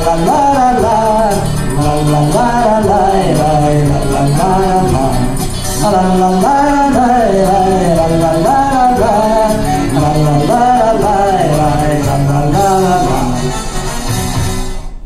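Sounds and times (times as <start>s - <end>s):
man singing: 0.0s - 13.8s
jingling tambourine: 0.0s - 14.6s
folk-style pop song over speakers: 0.0s - 15.0s.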